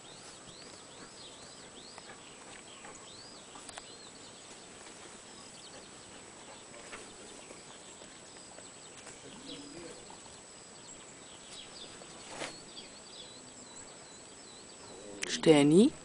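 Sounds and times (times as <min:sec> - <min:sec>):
faint outdoor background: 0:00.0 - 0:16.0
small bird chirping: 0:00.0 - 0:16.0.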